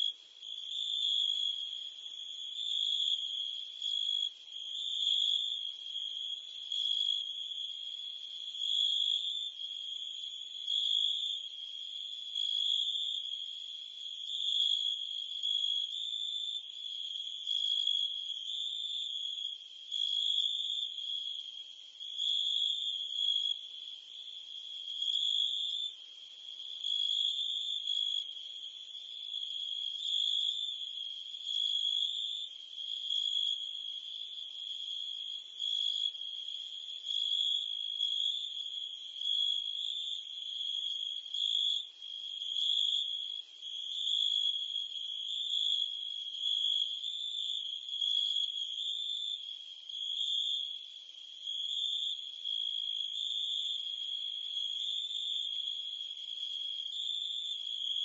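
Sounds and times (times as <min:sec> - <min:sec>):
crickets and cicadas chirping: 0:00.0 - 0:58.0.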